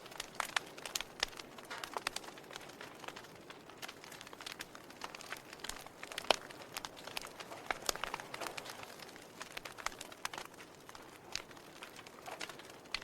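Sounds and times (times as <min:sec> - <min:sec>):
fire pops and snaps: 0:00.0 - 0:13.0
wood fire crackling: 0:00.0 - 0:13.0.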